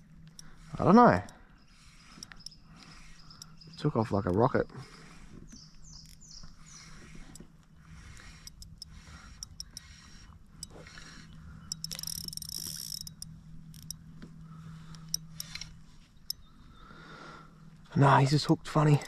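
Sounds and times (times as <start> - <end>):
fishing reel whirring and clicking: 0.0 - 16.6.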